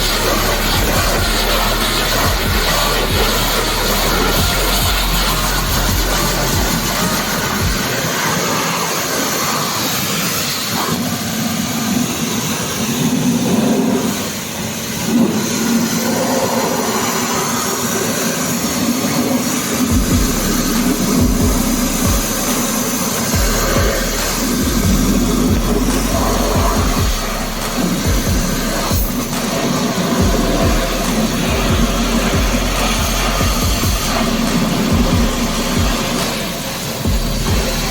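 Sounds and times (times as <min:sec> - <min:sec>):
pressure washer spraying water: 0:00.0 - 0:37.9
pump motor humming: 0:00.0 - 0:37.9.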